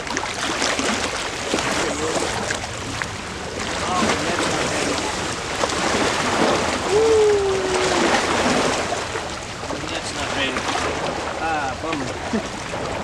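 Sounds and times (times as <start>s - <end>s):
water splashing and lapping: 0.0s - 13.0s.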